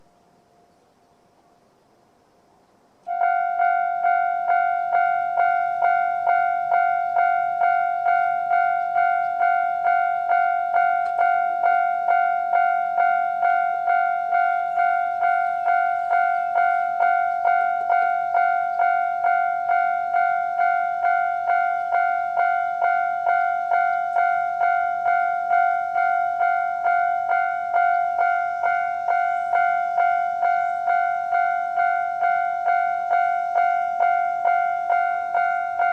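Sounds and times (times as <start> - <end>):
level crossing warning alarm: 3.0 - 35.9.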